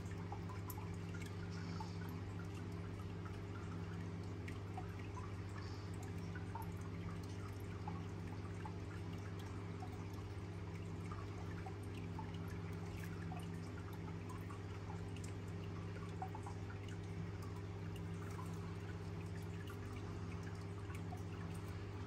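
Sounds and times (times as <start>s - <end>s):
dripping and trickling water: 0.0s - 22.0s
steady low hum: 0.0s - 22.0s.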